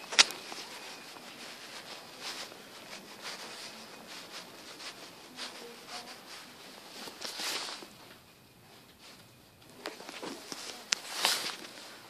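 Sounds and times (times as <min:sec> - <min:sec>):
footsteps: 0:00.0 - 0:12.0
handheld camera rustling: 0:00.0 - 0:12.0.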